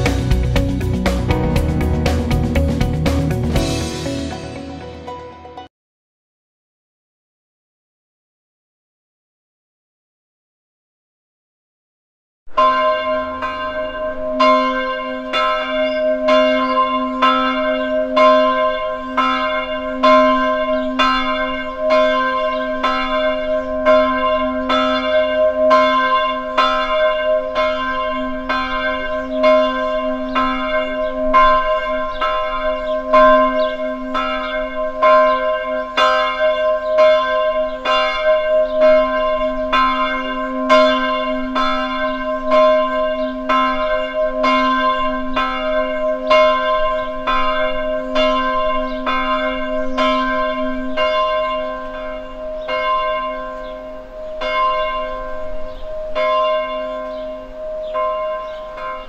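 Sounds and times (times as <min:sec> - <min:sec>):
church bell ringing: 0:00.0 - 0:05.7, 0:12.5 - 0:59.0.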